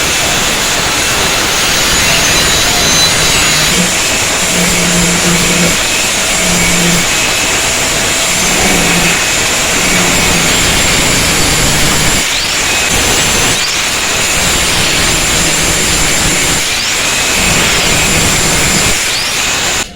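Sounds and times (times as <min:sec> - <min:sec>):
electric power tool running: 0:00.0 - 0:19.9
thin high whine: 0:00.0 - 0:19.9.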